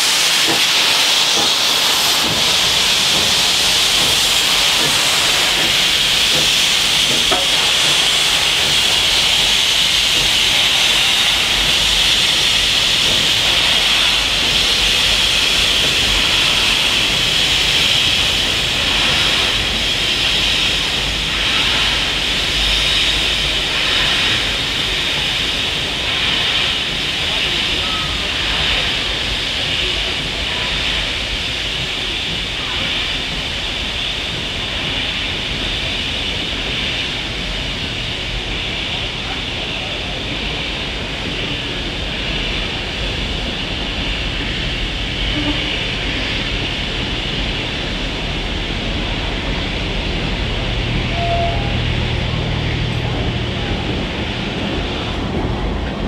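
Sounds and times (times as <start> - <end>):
carriages rumbling over track: 0.0 - 56.0
steam locomotive hissing: 0.0 - 56.0.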